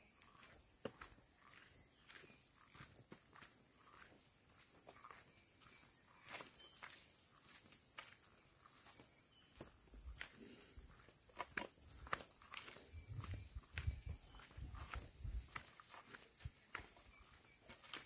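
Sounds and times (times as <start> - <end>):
insects droning: 0.0 - 18.0
footsteps on concrete: 0.2 - 18.0.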